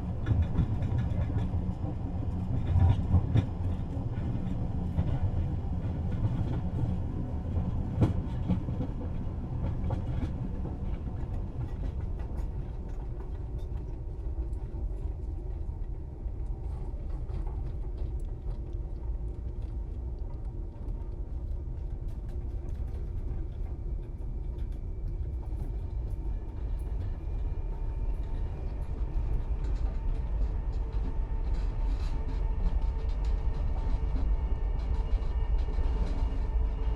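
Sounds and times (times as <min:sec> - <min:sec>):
train carriage rumble: 0:00.0 - 0:36.9.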